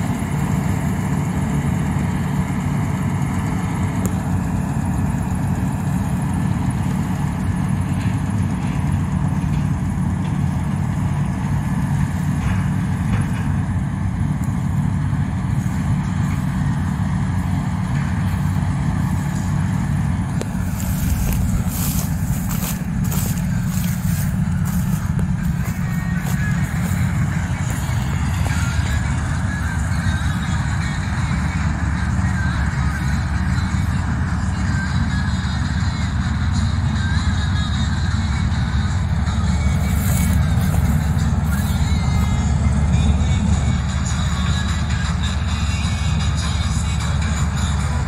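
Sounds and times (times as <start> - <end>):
combine harvester engine drone: 0.0 - 48.0.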